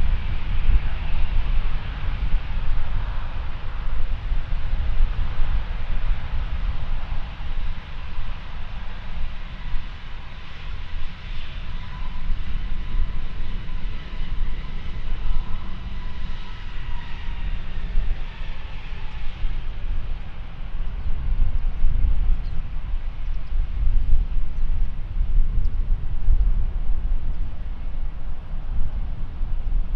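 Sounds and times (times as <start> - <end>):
jet engines running: 0.0 - 29.9
wind on microphone: 0.0 - 29.9.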